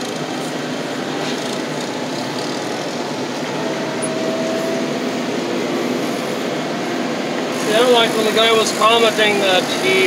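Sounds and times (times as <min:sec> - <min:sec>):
wheel loader diesel engine running: 0:00.0 - 0:10.0.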